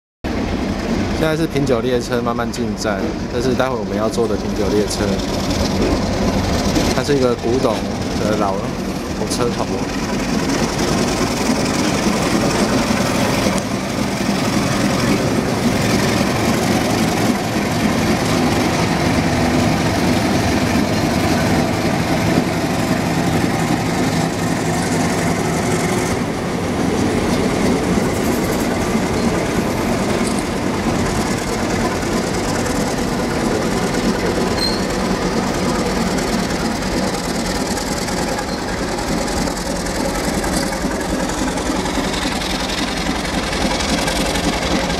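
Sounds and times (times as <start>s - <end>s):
diesel locomotive running: 0.3s - 44.9s
passenger cars rolling on rails: 0.3s - 44.9s.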